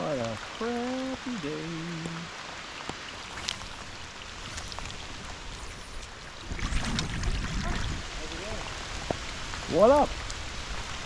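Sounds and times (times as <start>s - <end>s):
rain drop ticks: 0.0s - 11.0s
rain hissing on water: 0.0s - 11.0s.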